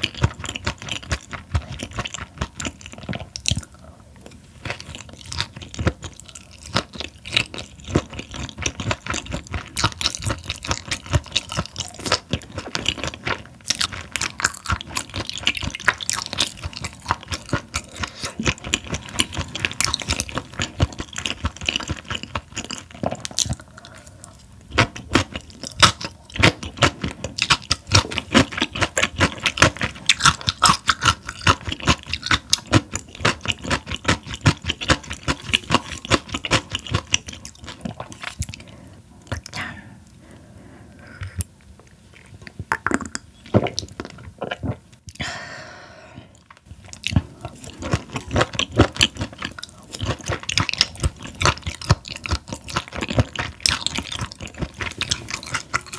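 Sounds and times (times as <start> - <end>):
crunchy wet chewing: 0.0 - 40.4, 46.3 - 55.9.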